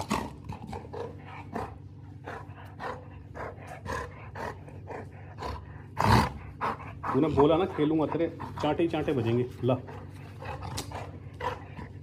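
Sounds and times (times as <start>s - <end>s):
dog growling: 0.0s - 12.0s.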